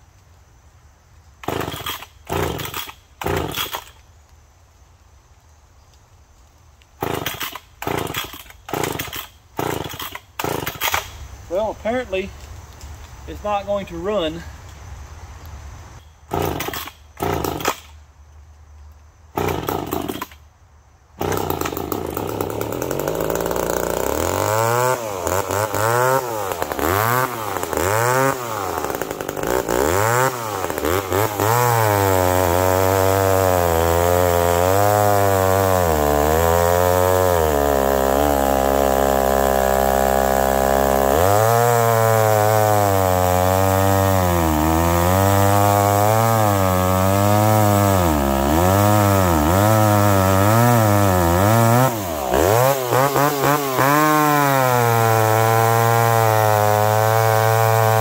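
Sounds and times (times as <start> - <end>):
chainsaw cutting log: 1.4 - 4.0, 7.0 - 12.2, 16.3 - 18.0, 19.3 - 20.4, 21.2 - 58.0
chainsaw engine revving: 1.4 - 4.0, 7.0 - 12.2, 16.3 - 17.9, 19.3 - 20.4, 21.2 - 58.0.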